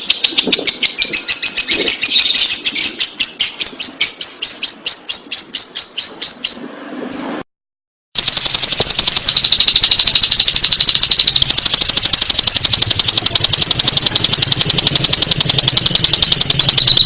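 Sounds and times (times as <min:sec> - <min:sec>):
lovebird high trill: 0:00.0 - 0:06.6, 0:08.2 - 0:17.0
lovebird chirping: 0:00.0 - 0:07.4, 0:08.2 - 0:17.0.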